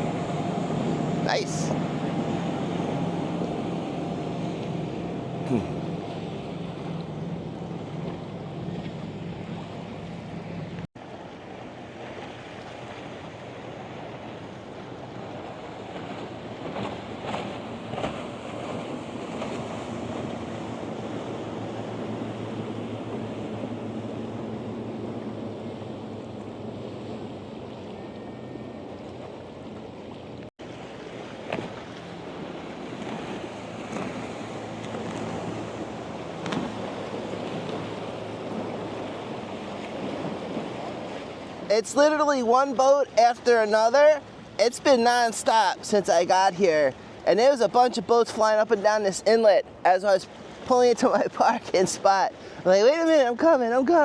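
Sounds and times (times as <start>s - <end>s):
motorboat engines humming: 0.0s - 54.0s
wind: 0.0s - 54.0s.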